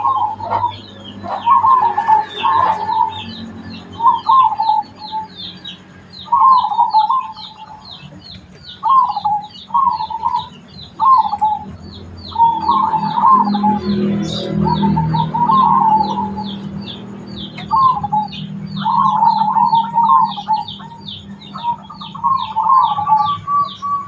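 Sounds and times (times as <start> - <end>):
bird chirping: 0.0 - 24.0
dove cooing: 0.0 - 24.0.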